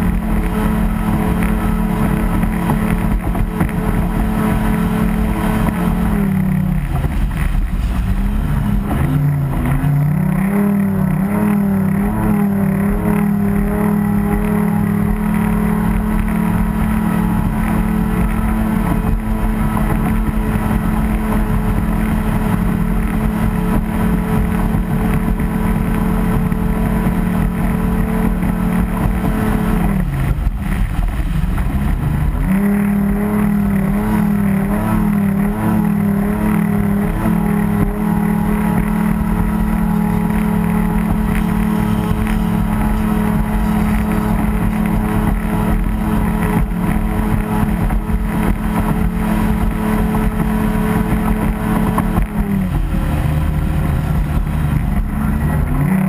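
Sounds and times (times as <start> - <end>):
racing boat engine: 0.0 - 56.0.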